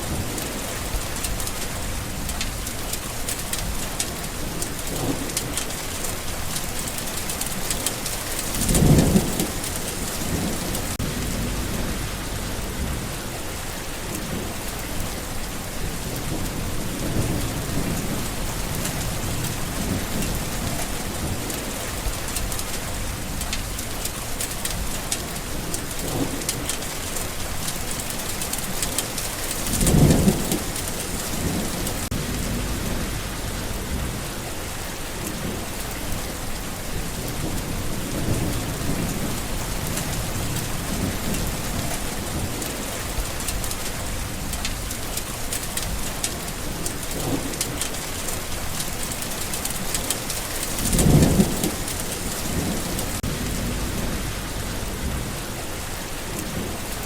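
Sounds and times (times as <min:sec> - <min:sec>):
low thunder rumbles: 0:00.0 - 0:57.0
steady rain: 0:00.0 - 0:57.0.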